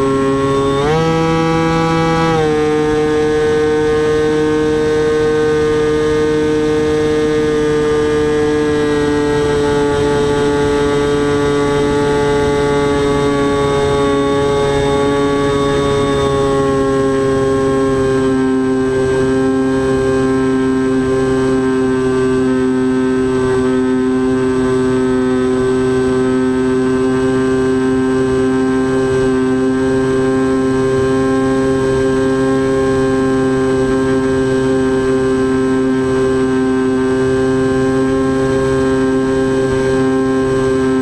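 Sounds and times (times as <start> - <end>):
model aircraft motor buzzing whine: 0.0 - 41.0.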